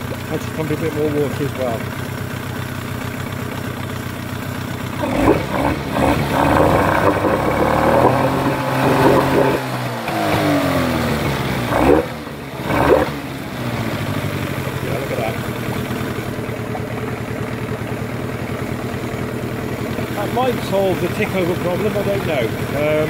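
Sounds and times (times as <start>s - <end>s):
outboard motor revving: 0.0s - 23.0s.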